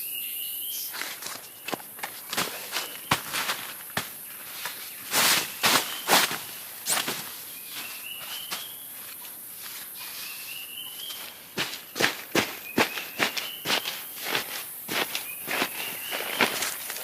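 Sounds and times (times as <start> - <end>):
crunching footsteps: 0.9 - 17.0.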